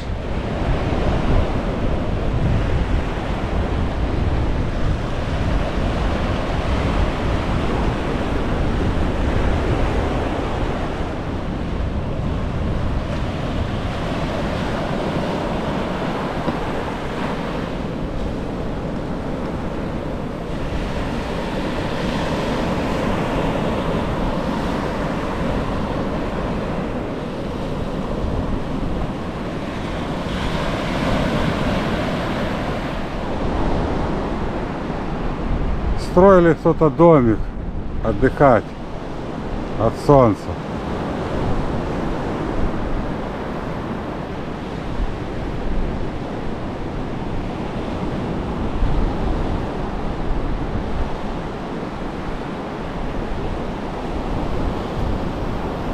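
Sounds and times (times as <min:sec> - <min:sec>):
wind rumbling on microphone: 0:00.0 - 0:36.4, 0:37.3 - 0:55.9
waves breaking on beach: 0:00.0 - 0:55.9.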